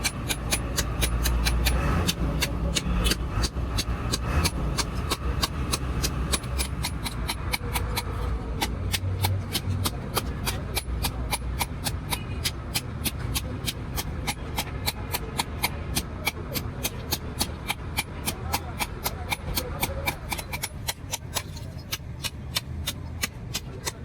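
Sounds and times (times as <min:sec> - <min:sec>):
fast sharp taps: 0:00.0 - 0:24.0.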